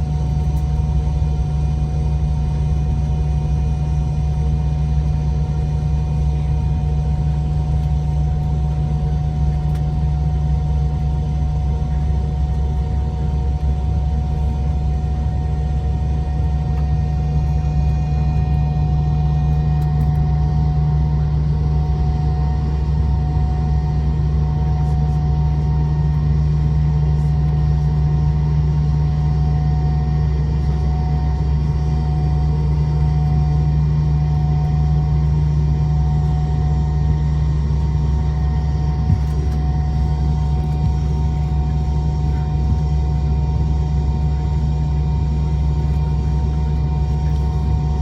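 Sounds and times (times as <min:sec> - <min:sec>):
jet engines running: 0:00.1 - 0:48.0.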